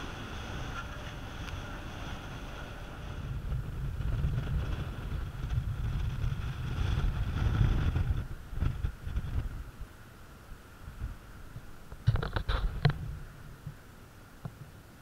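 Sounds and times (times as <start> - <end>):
wind buffeting microphone: 0.0 - 10.0, 10.6 - 13.8
faint steady whine: 0.0 - 15.0.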